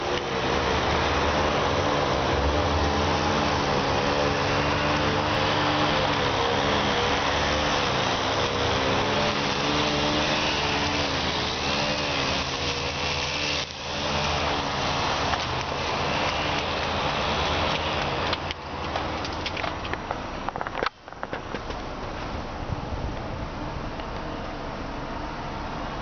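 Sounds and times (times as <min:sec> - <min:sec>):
constant noisy hiss: 0:00.0 - 0:26.0
steady mechanical hum: 0:00.0 - 0:26.0.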